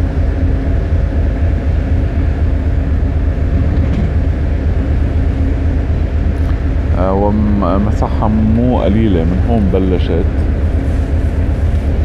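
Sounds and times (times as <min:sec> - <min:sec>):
faint engine hum: 0:00.0 - 0:12.0
ship low rumble: 0:00.0 - 0:12.0.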